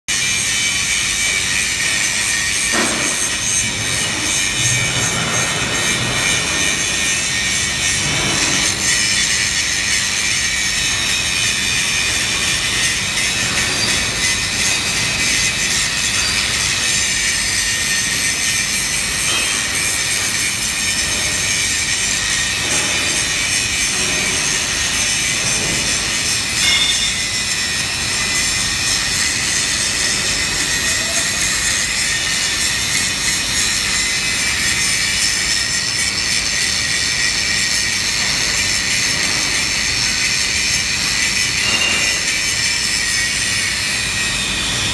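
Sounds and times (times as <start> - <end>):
angle grinder grinding metal: 0.1 - 44.9.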